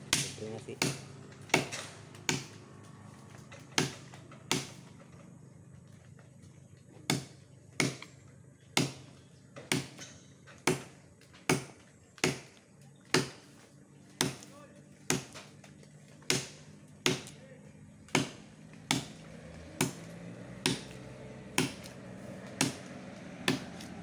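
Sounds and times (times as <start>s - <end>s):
machete chopping branch: 0.0s - 5.0s, 7.0s - 8.2s, 8.8s - 24.0s.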